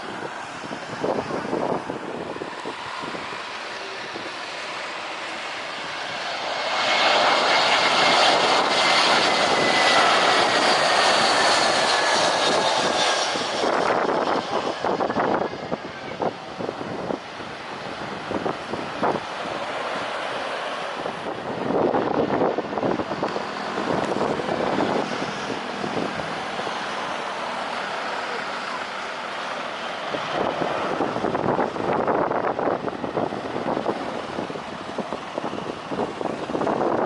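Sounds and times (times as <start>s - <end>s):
jet plane passing with whine: 0.0s - 37.0s
wind buffeting microphone: 0.0s - 37.0s.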